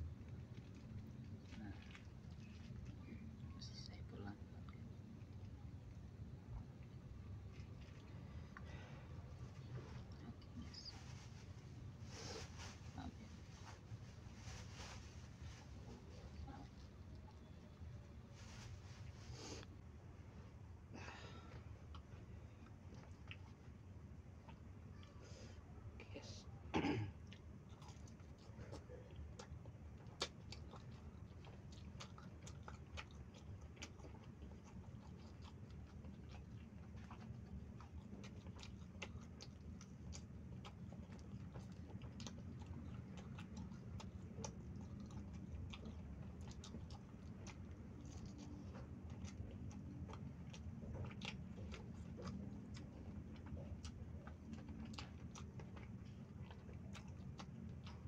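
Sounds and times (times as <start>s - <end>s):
chewing fried snacks: 0.0s - 19.7s, 21.5s - 25.2s, 27.1s - 58.0s
steady low hum: 0.0s - 58.0s.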